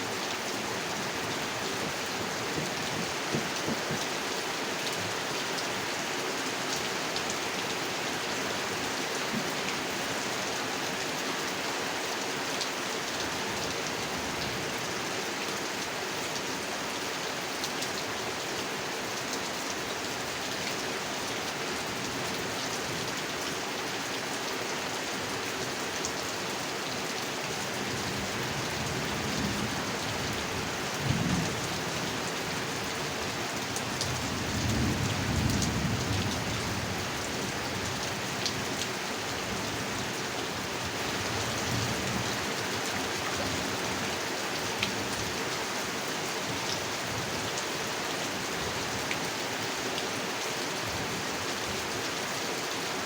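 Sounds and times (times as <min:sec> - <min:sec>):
rain falling on a pond: 0:00.0 - 0:53.0.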